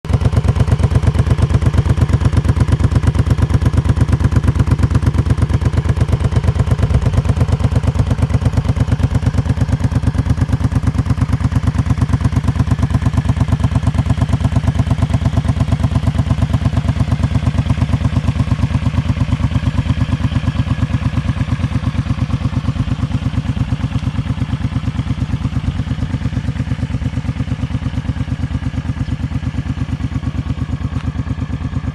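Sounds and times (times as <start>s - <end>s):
motorcycle engine idling: 0.1s - 31.9s.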